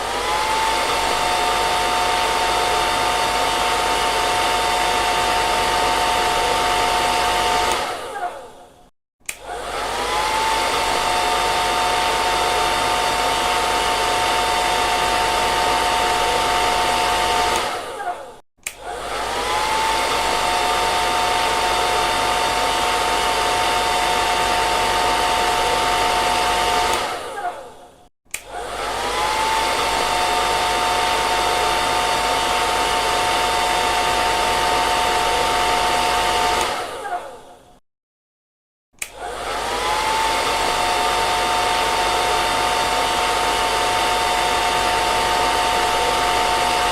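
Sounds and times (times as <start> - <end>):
hair dryer blowing: 0.0 - 37.8, 39.0 - 46.9.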